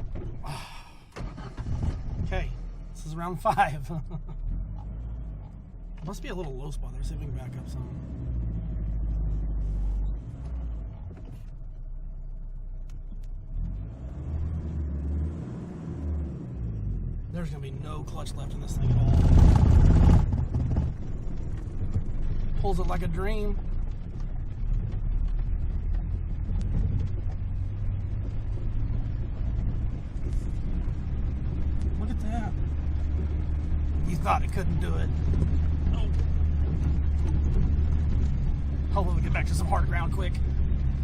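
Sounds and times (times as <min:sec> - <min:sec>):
pickup engine rumbling under load: 0:00.0 - 0:15.0, 0:16.0 - 0:41.0.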